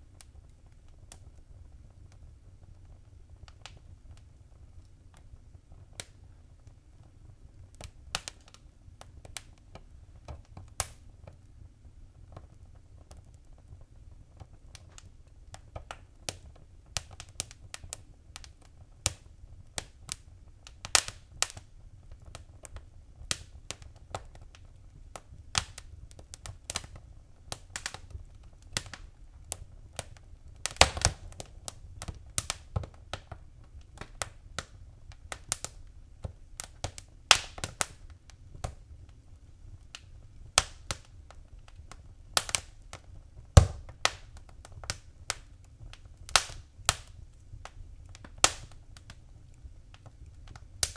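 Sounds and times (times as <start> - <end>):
fireplace fire crackling and popping: 0.0 - 50.9.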